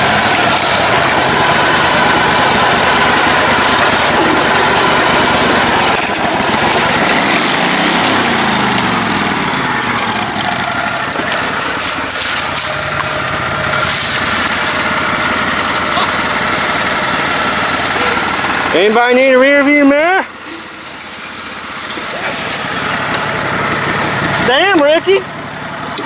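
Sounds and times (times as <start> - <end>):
riding mower engines running: 0.0 - 26.0.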